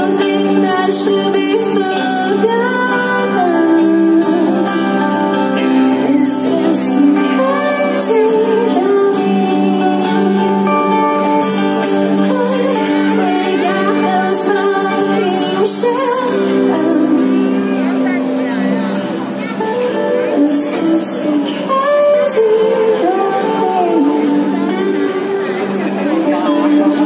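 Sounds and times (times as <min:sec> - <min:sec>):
live band with guitars: 0:00.0 - 0:27.0.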